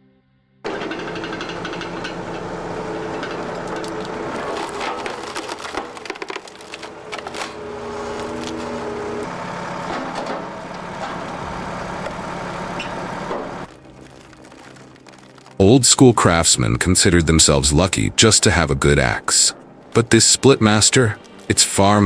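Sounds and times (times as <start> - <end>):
wood cracking and splintering: 0.7 - 22.0
wood-processing machine engine: 0.7 - 22.0.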